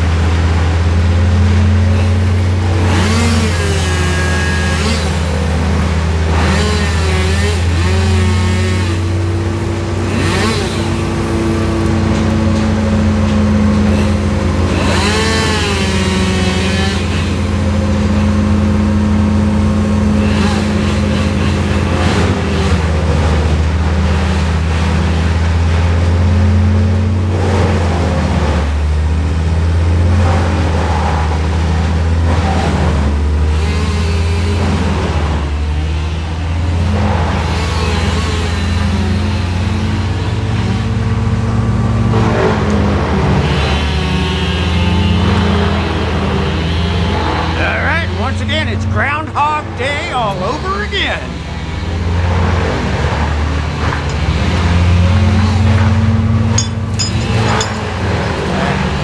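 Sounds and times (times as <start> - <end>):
crane engine running: 0.0 - 59.0.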